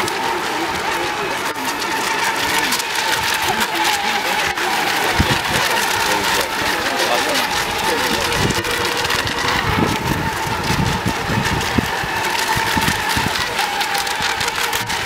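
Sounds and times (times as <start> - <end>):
low rumbling: 0.0 - 15.0
model boat motors whining: 0.0 - 15.0.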